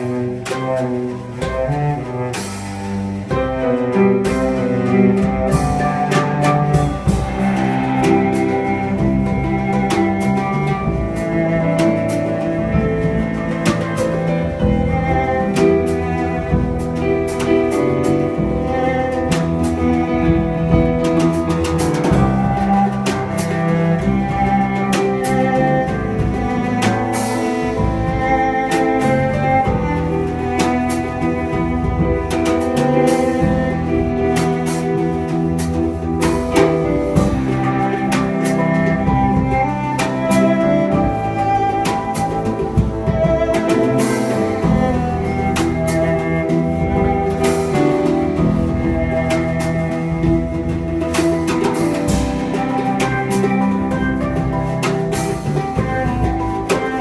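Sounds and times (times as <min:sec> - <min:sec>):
cello: 0:00.0 - 0:57.0
drum and cymbal hits: 0:00.0 - 0:57.0
guitar: 0:00.0 - 0:57.0.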